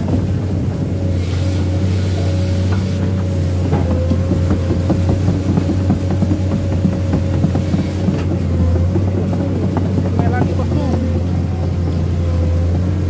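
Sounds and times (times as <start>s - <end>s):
engine whine: 0.0s - 13.0s
excavator diesel engine droning: 0.0s - 13.0s
track clanks and knocks: 0.0s - 13.0s.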